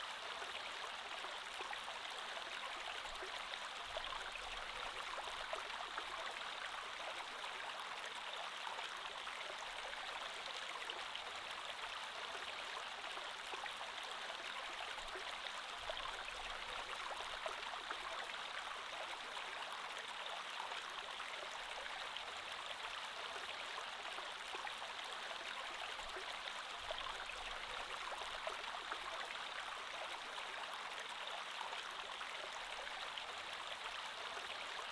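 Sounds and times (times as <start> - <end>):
creek water flowing over stones: 0.0 - 34.9.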